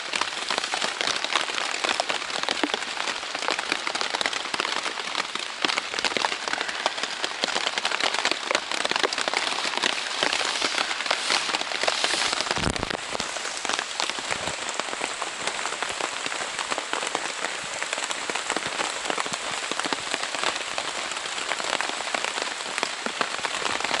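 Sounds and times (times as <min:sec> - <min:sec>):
heavy rain on tent fabric: 0:00.0 - 0:24.0.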